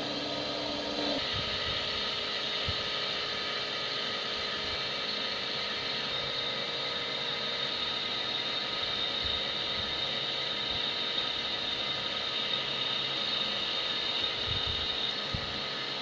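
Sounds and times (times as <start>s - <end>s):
electric pump motor whine: 0.0s - 16.0s
whirring mechanical hiss: 0.0s - 16.0s.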